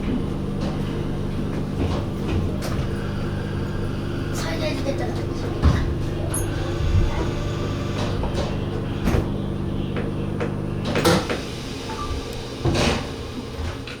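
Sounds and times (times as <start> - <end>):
train interior hum: 0.0 - 14.0.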